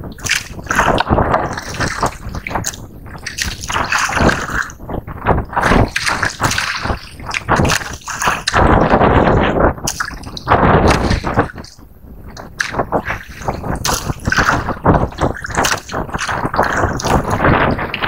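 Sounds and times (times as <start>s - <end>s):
sea water sloshing and splashing: 0.0s - 18.0s.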